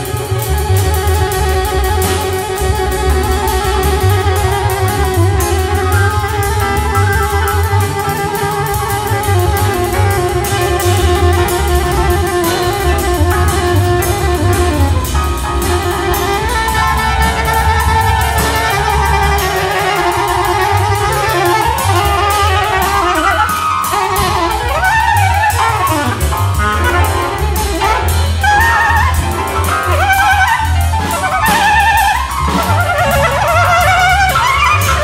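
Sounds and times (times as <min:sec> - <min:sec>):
drums and cymbals: 0:00.0 - 0:35.0
plucked double bass: 0:00.0 - 0:35.0.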